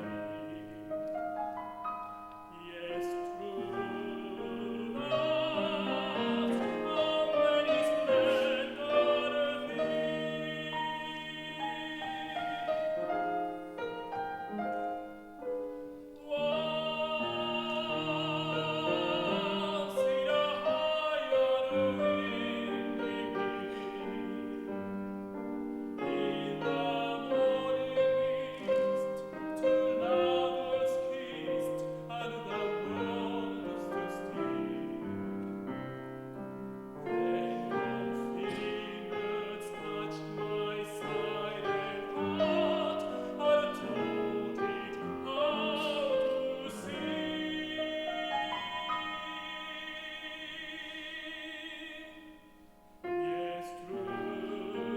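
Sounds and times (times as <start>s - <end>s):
man singing operatically: 0.0s - 1.1s, 2.2s - 13.8s, 16.2s - 24.6s, 26.0s - 34.9s, 37.1s - 54.9s
piano: 0.0s - 54.9s.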